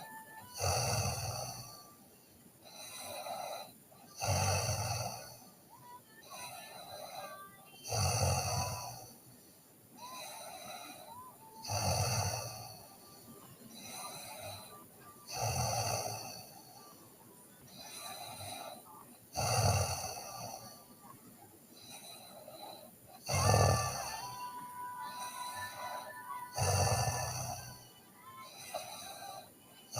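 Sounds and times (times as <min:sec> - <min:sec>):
girl snoring: 0:00.0 - 0:02.0, 0:02.6 - 0:09.4, 0:10.0 - 0:17.0, 0:17.7 - 0:29.9
quiet breaths: 0:00.0 - 0:29.9.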